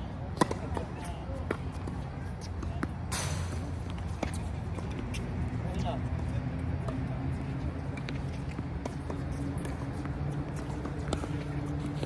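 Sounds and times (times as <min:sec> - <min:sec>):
tennis balls and footsteps on court: 0:00.0 - 0:12.0.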